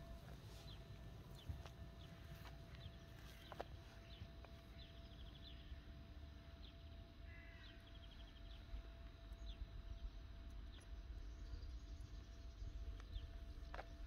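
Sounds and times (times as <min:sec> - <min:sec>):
faint birdsong trills and chirps: 0:00.0 - 0:14.0
low steady rumble: 0:00.0 - 0:14.0.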